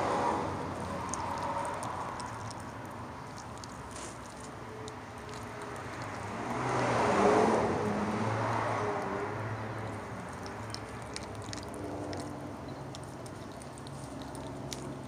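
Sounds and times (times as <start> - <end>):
dog licking wet clicks: 0.8 - 6.8, 8.5 - 15.0.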